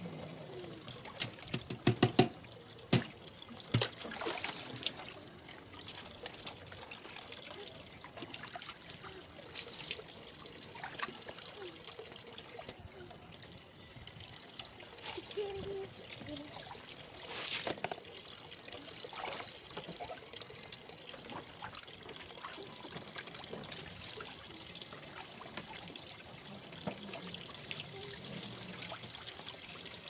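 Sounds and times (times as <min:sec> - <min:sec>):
water trickling in plastic tub: 0:00.0 - 0:30.0.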